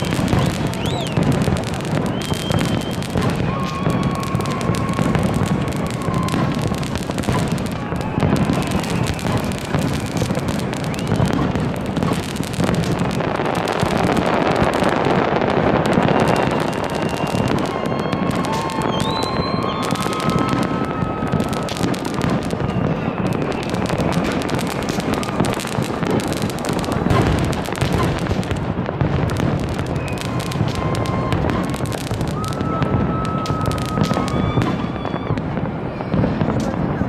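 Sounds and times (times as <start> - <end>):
fireworks bursts and crackling: 0.0 - 37.0.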